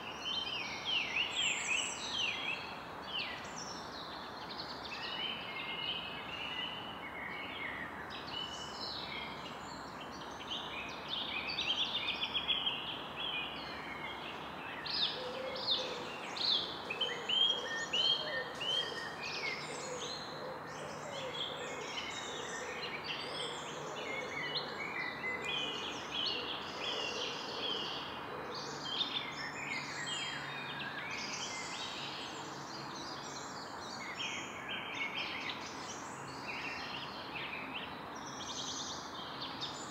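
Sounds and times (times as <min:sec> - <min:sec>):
steady background hiss: 0:00.0 - 0:39.9
birds chirping and singing: 0:00.2 - 0:39.9.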